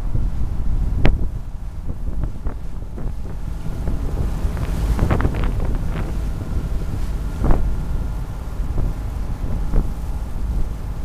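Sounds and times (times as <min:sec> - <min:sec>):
wind buffeting microphone: 0:00.0 - 0:11.0
water slapping against boat hull: 0:01.9 - 0:11.0.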